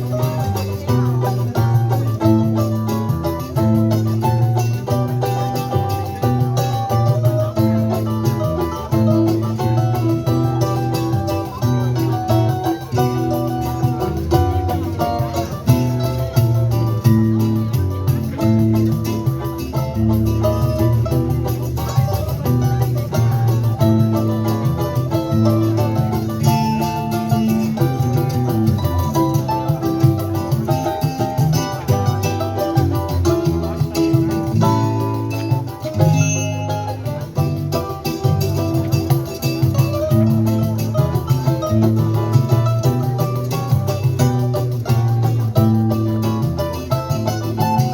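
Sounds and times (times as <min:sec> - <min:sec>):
plucked strings ensemble music: 0:00.0 - 0:47.9.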